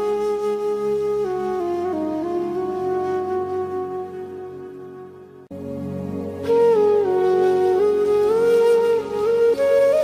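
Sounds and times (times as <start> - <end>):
background music: 0.0 - 10.0
sustained background music notes: 0.0 - 10.0.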